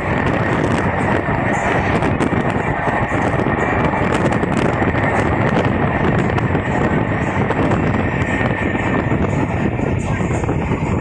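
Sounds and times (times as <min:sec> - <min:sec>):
train wheels rumbling on rails: 0:00.0 - 0:11.0
wind on microphone: 0:00.0 - 0:11.0.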